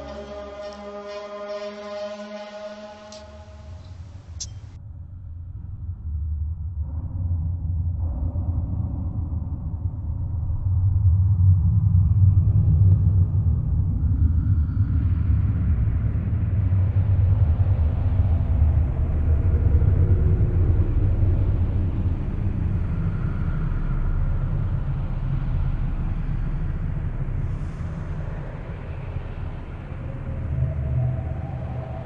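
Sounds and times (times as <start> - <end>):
deep rumbling drone: 0.0 - 32.0.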